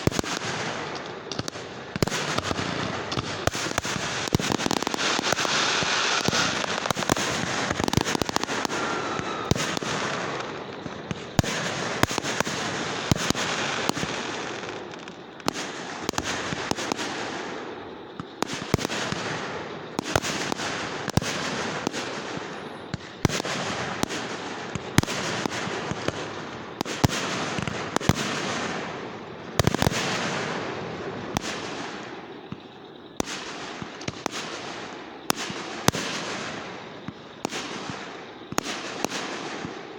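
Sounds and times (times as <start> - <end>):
crackling firework pops: 0.0 - 39.9
fireworks bangs: 0.0 - 39.9.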